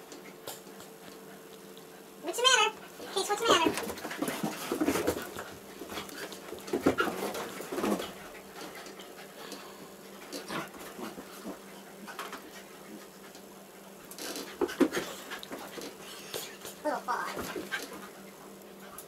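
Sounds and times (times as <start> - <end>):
dogs play-fighting: 0.0 - 19.0
dogs scuffling: 2.4 - 19.0.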